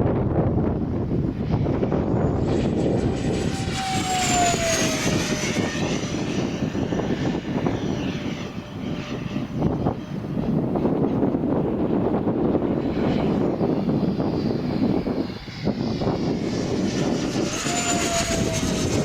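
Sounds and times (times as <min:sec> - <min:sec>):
model jet fans whining past: 0:00.0 - 0:19.0
wind noise on microphone: 0:00.0 - 0:19.0.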